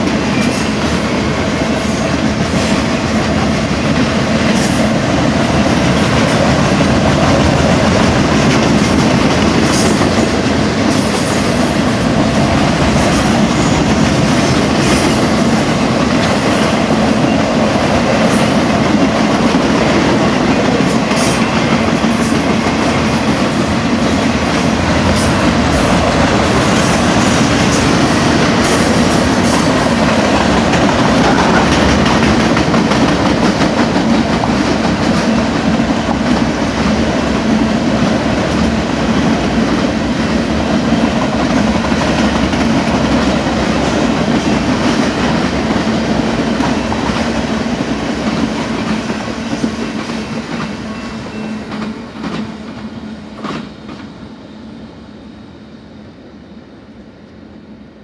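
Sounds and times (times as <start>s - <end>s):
freight train wheels on rail: 0.0s - 58.0s.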